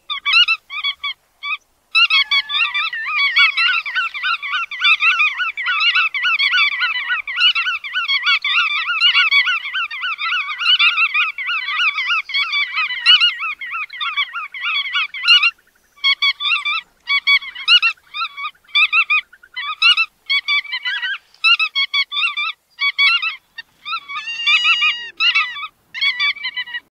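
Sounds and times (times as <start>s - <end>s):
birds calling with nasal honks: 0.0s - 26.9s.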